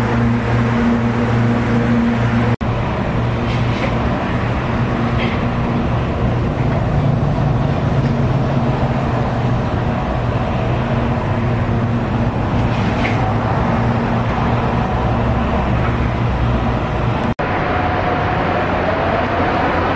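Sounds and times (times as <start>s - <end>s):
rush of road noise: 0.0s - 19.9s
vehicle motor humming: 0.0s - 19.9s.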